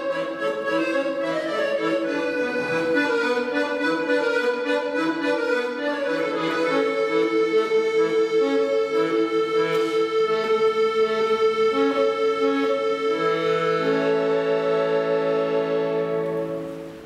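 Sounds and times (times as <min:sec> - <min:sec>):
piano accordion melody: 0:00.0 - 0:17.0.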